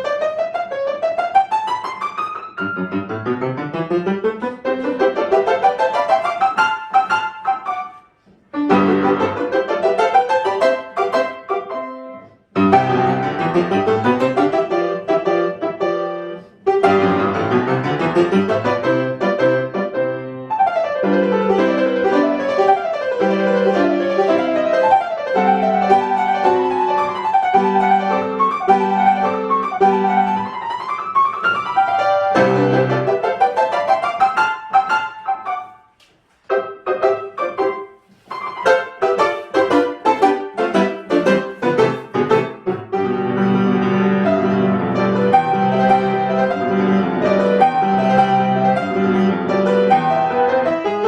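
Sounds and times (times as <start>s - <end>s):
solo piano classical piece: 0.0s - 51.0s.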